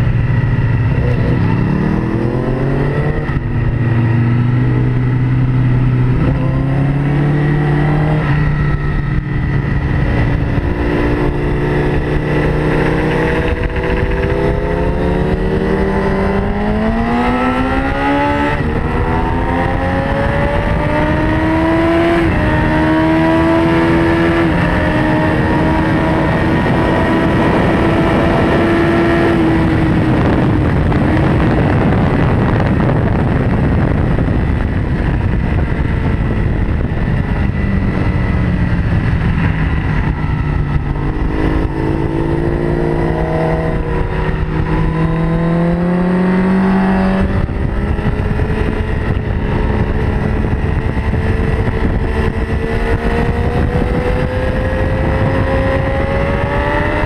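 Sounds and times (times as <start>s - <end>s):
loud wind rush: 0.0s - 57.0s
motorbike engine accelerating: 0.0s - 57.0s.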